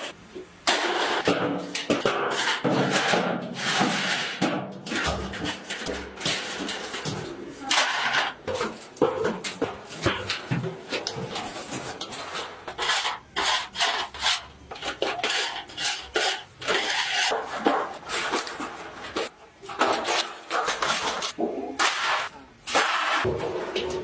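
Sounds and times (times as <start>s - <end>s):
metal scraping and clanking: 0.0s - 24.0s.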